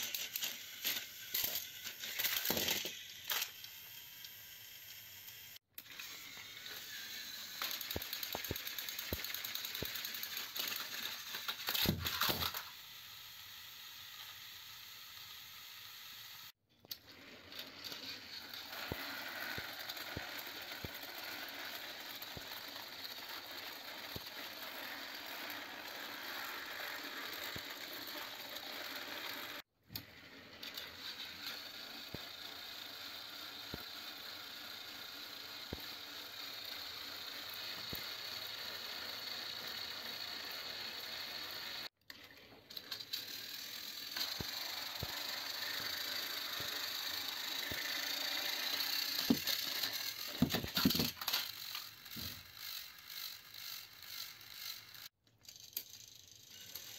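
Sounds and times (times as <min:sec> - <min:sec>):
clicks and rattling of toy train: 0:00.0 - 0:15.6, 0:16.8 - 0:56.9
toy train motors whirring: 0:00.0 - 0:56.9.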